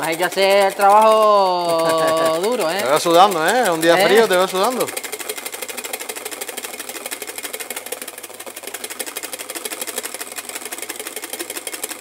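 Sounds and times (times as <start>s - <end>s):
whisk beating in metal bowl: 0.0s - 12.0s
whisk in metal saucepan: 0.0s - 12.0s.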